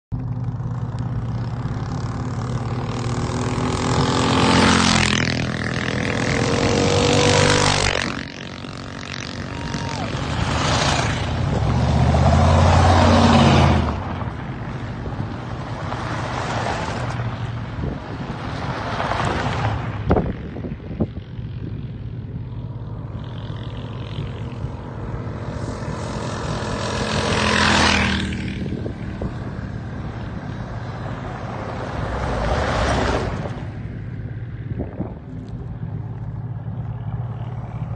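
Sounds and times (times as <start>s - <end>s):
vehicles passing by: 0.1s - 37.9s.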